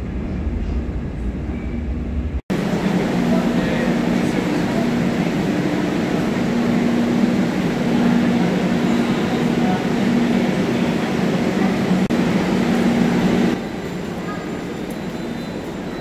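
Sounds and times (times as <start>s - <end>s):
metro train humming: 0.0s - 16.0s.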